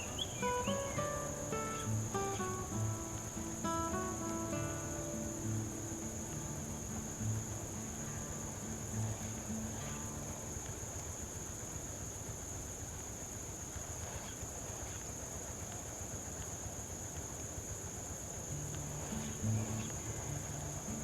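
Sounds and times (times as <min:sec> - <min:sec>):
insects buzzing: 0:00.0 - 0:21.0
low background noise: 0:00.0 - 0:21.0.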